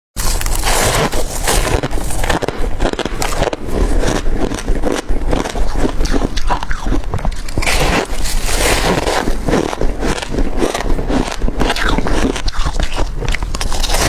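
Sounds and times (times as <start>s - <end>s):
ice being crunched: 0.2s - 14.0s.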